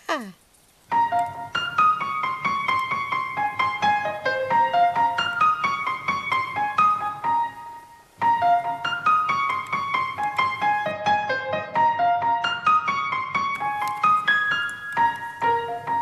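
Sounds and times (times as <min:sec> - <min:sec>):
light background melody: 0:00.9 - 0:16.0.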